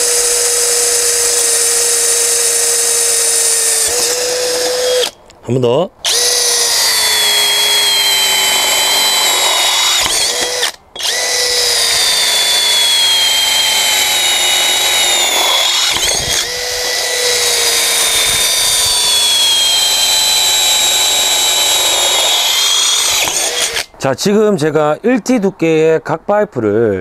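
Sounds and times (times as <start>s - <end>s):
cordless drill drilling into steel: 0.0s - 5.2s, 6.0s - 23.9s.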